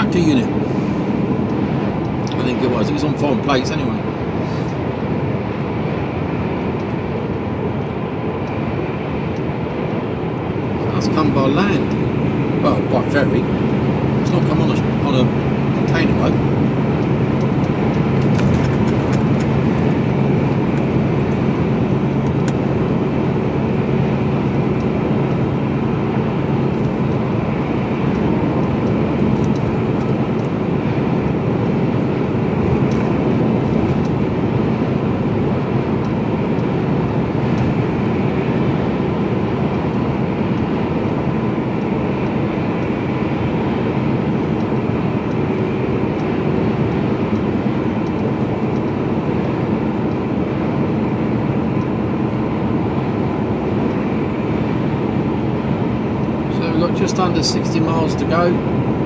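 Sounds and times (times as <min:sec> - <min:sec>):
diesel engine drone: 0:00.0 - 0:59.0
road and tyre noise: 0:00.0 - 0:59.0.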